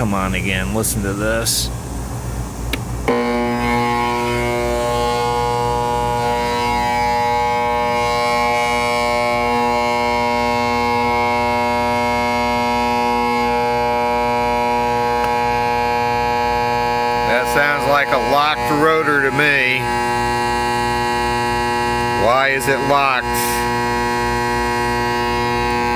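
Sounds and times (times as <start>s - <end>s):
pool pump motor humming: 0.0s - 25.9s.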